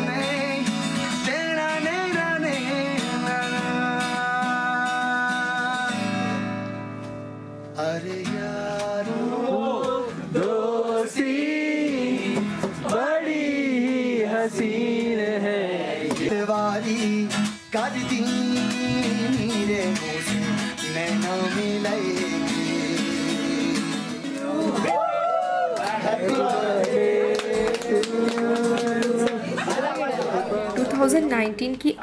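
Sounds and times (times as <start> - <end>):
man singing: 0.0 - 6.4, 7.7 - 24.8, 26.0 - 29.7
acoustic guitar strumming: 0.0 - 31.5.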